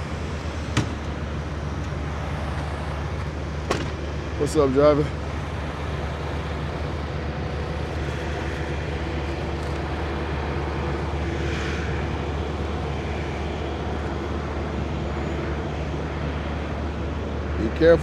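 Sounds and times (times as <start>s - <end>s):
diesel truck engines idling: 0.0s - 18.0s.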